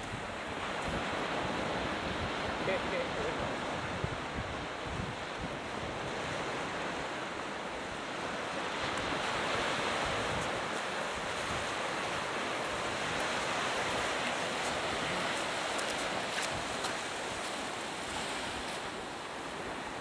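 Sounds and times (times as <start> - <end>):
small waves washing onto sand: 0.0 - 20.0
wind buffeting microphone: 0.0 - 20.0.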